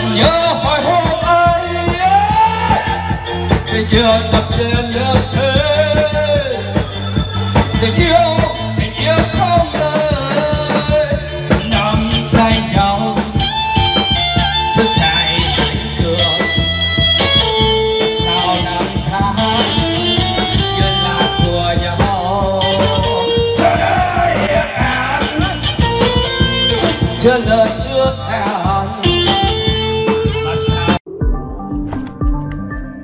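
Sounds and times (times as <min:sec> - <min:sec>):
man singing through speakers: 0:00.0 - 0:31.0
amplified band music: 0:00.0 - 0:33.0
held keyboard or guitar notes: 0:00.0 - 0:33.0.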